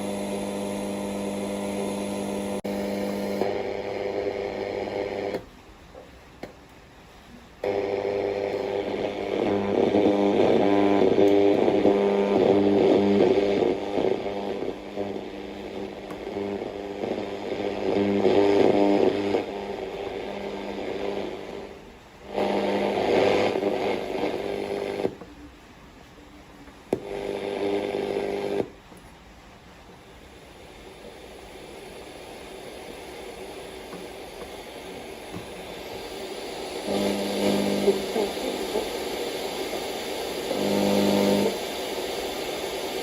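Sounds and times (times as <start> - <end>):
buzzy held tones from speaker: 0.0 - 5.4, 7.6 - 28.8, 30.0 - 43.0.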